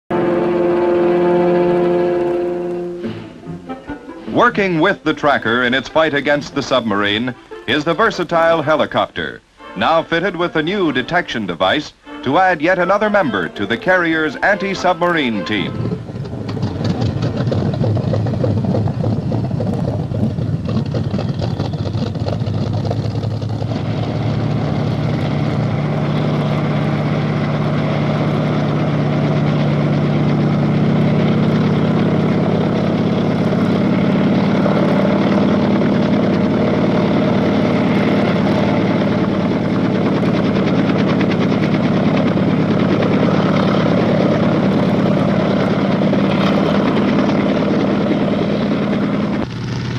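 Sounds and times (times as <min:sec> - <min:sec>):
helicopter engine and rotor chop: 0:04.3 - 0:49.9.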